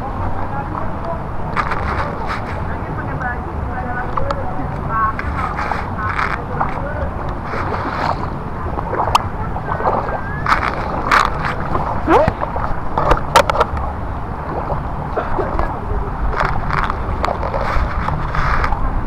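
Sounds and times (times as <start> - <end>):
steady low rumble: 0.0 - 19.0
water sloshing and splashing: 0.0 - 19.0.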